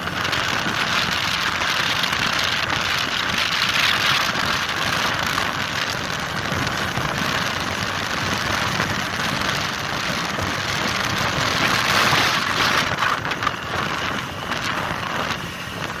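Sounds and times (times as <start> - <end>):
wind and road hiss: 0.0 - 16.0.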